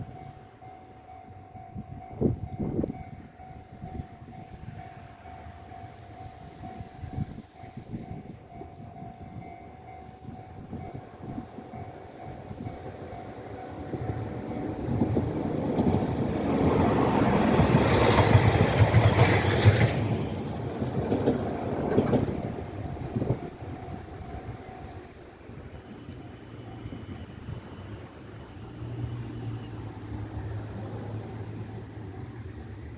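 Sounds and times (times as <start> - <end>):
tram passing: 0.0 - 32.9.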